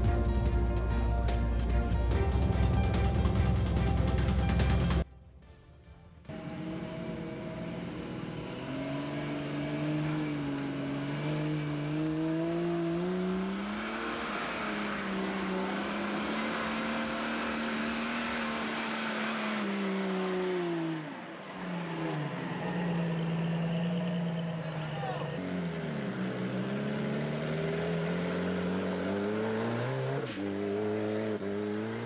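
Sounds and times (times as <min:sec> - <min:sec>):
off-road vehicle engine revving: 0:06.3 - 0:32.0.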